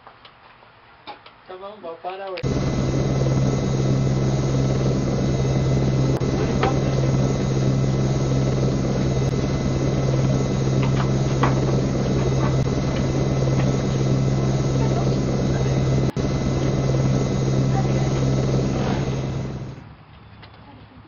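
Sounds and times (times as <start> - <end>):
loud mechanical drone: 2.4 - 19.8.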